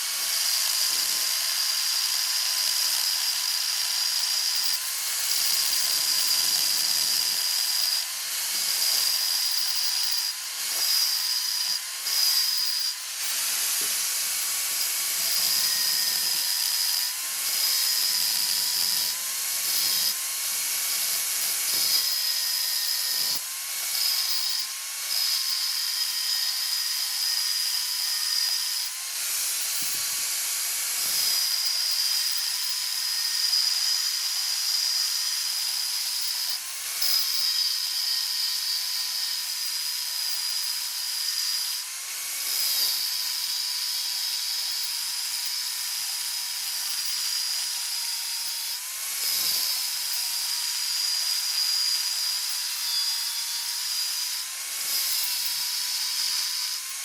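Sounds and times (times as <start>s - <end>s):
electric power tool whining: 0.0s - 57.0s.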